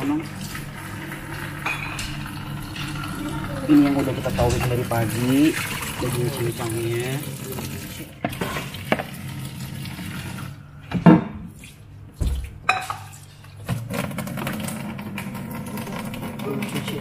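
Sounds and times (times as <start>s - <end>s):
running tap: 0.0s - 10.6s, 13.7s - 17.0s.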